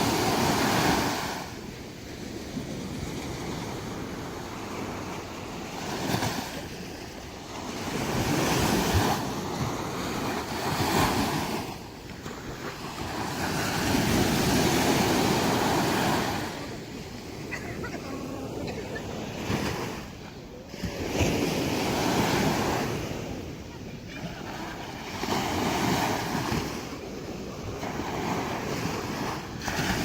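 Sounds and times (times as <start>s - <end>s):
surf breaking on beach: 0.0s - 30.0s.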